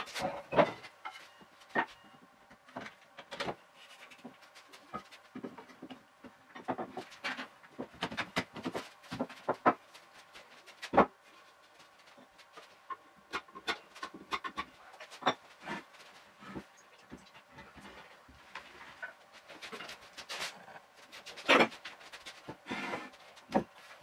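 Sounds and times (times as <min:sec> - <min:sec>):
wooden knocks and clatters: 0:02.6 - 0:11.2, 0:11.8 - 0:24.0.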